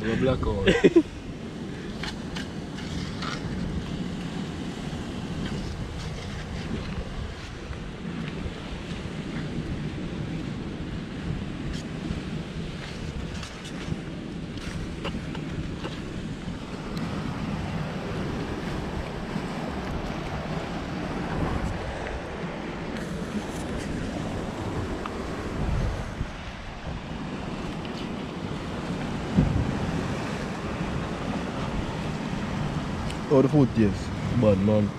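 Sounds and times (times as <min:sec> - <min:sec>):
surf washing against rocks: 0:00.0 - 0:34.9
wind buffeting microphone: 0:00.0 - 0:34.9.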